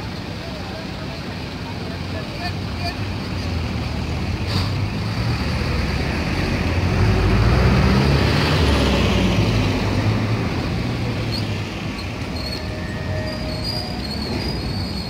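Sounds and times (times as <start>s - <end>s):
heavy vehicle engine rumble: 0.0s - 15.0s
street traffic: 0.0s - 15.0s.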